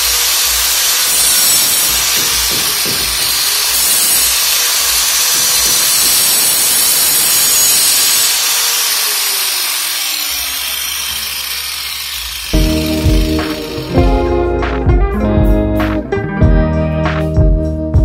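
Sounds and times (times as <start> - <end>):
grinder disc spinning down: 0.0 - 14.6
angle grinder grinding pipe: 0.0 - 14.7.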